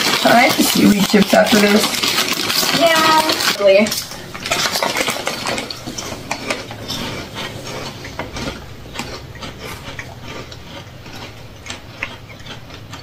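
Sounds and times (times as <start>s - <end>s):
people chewing crunchy chips: 0.0s - 13.0s.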